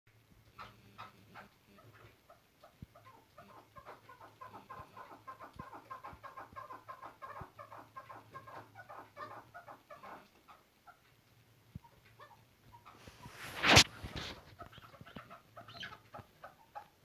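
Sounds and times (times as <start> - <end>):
partridge clucking calls: 0.5 - 11.1, 11.8 - 17.0.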